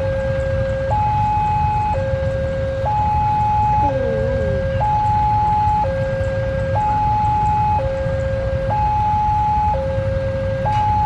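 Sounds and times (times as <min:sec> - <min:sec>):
level crossing two-tone alarm: 0:00.0 - 0:11.0
steady low rumble: 0:00.0 - 0:11.0.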